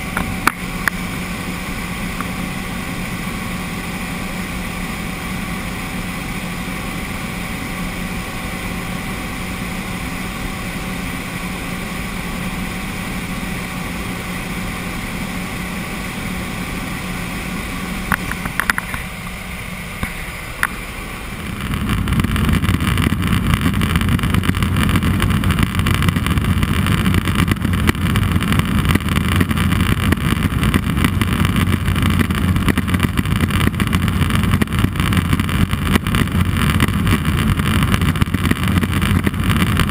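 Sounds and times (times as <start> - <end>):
rough rush with deep hum: 0.0 - 39.9
turbine engine and propeller drone: 0.0 - 39.9.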